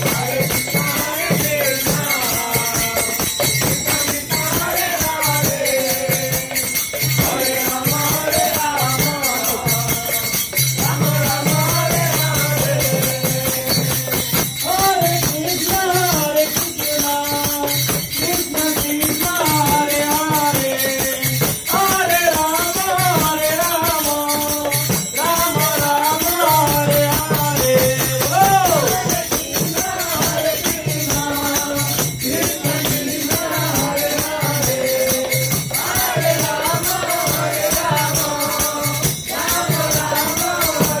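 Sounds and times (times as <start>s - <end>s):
hand drum beat: 0.0s - 41.0s
jingling hand cymbals: 0.0s - 41.0s
man singing through loudspeaker: 0.0s - 41.0s.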